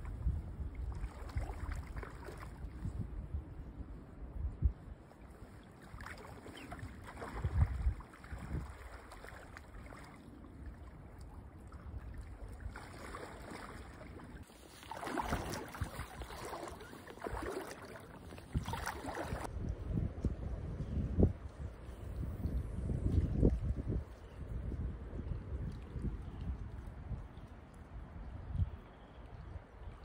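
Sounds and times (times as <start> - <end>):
wind gusting on microphone: 0.0 - 9.9, 11.7 - 30.0.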